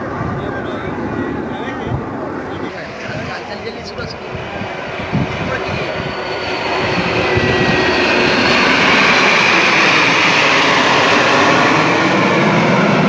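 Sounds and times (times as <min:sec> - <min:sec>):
jet aircraft roaring past: 0:00.0 - 0:13.0.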